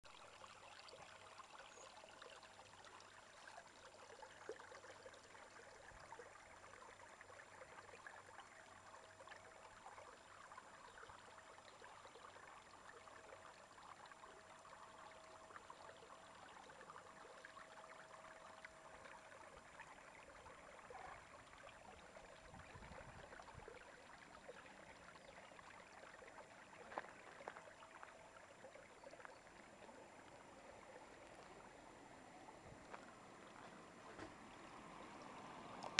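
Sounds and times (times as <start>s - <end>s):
faint steady hum: 0.0s - 35.9s
stream water flowing over rocks: 0.0s - 35.9s.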